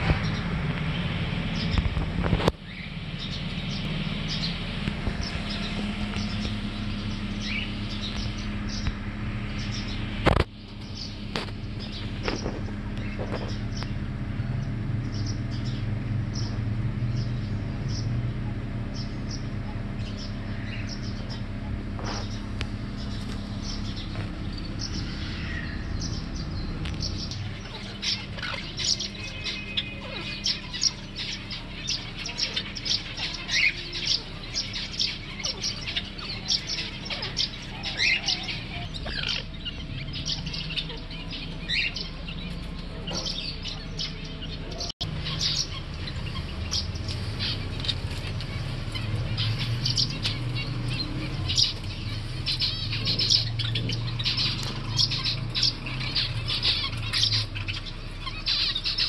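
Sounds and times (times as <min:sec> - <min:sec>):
small birds chirping: 0:00.0 - 0:59.0
steady low hum: 0:00.0 - 0:59.0.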